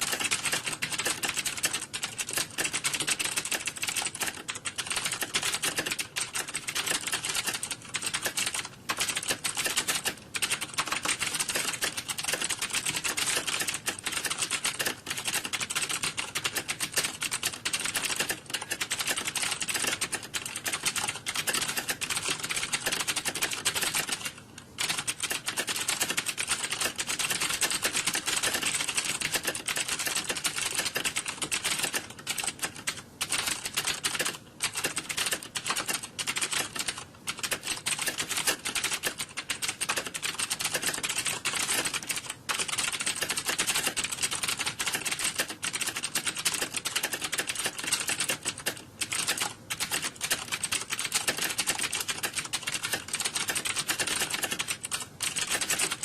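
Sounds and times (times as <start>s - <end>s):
computer keyboard typing: 0.0s - 56.0s.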